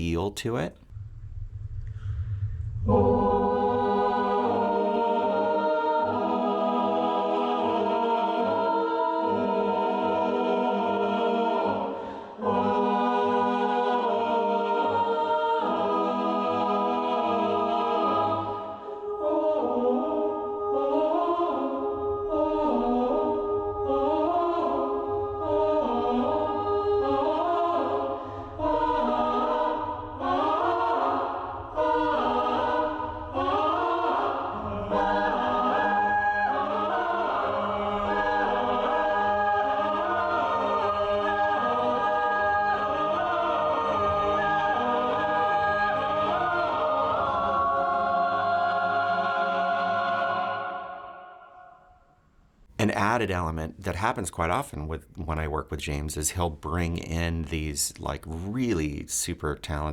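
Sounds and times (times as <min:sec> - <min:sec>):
orchestral music with choir: 0:02.9 - 0:51.8.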